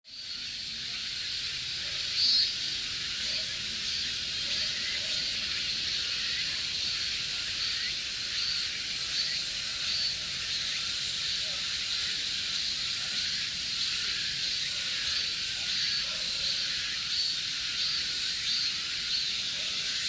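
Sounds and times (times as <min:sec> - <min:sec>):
cicadas buzzing: 0:00.1 - 0:20.0.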